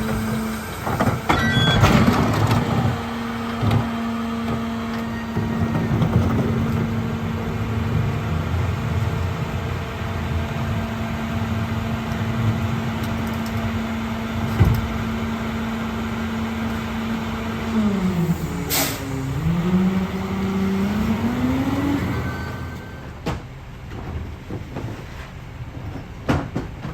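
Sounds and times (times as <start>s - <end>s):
garbage truck engine running: 0.0s - 26.9s.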